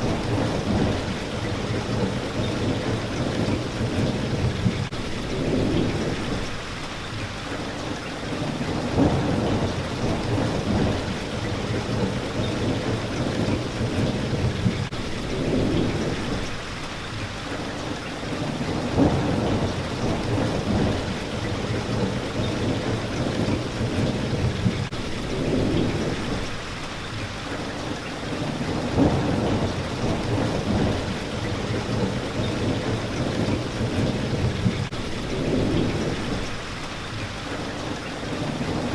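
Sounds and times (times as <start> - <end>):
thunder rumbling: 0.0 - 6.8, 8.2 - 16.7, 18.2 - 26.7, 28.2 - 36.8, 38.2 - 38.9
rain hitting a window: 0.0 - 38.9.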